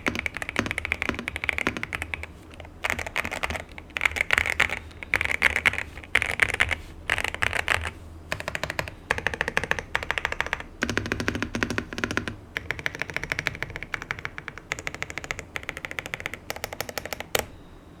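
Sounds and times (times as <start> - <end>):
mechanical keyboard typing: 0.0 - 17.5.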